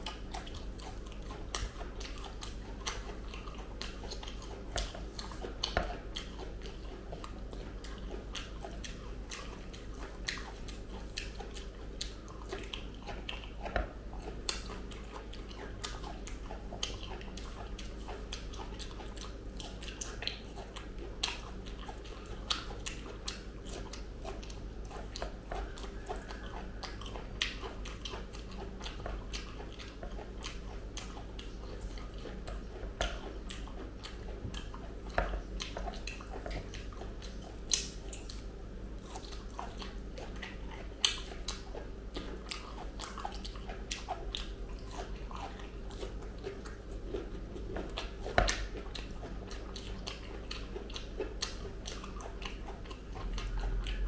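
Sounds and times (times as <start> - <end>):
chewing and biting fruit: 0.0 - 54.0.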